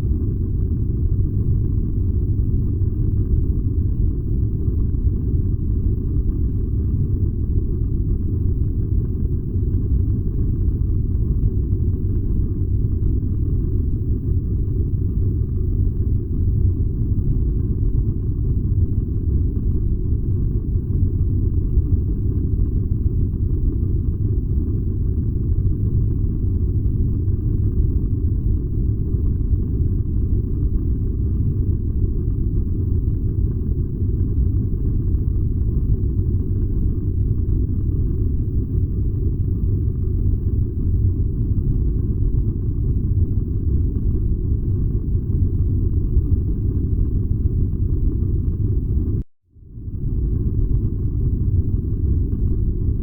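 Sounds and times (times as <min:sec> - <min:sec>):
furnace low rumble: 0:00.0 - 0:53.0.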